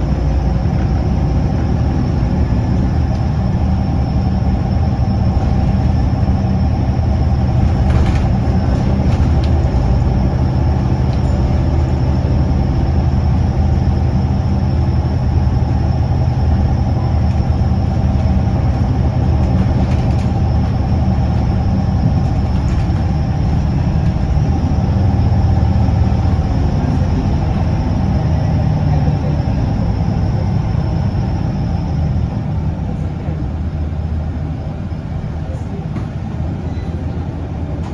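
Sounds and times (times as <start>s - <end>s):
bus diesel engine running: 0.0s - 37.9s.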